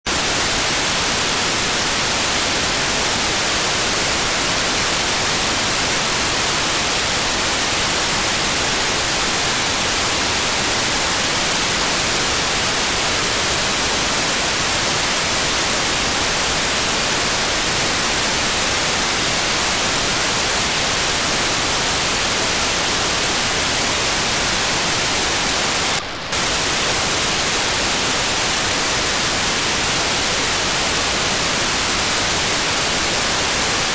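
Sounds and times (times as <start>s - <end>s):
radio static hiss: 0.1s - 33.9s
short data burst: 0.1s - 33.9s.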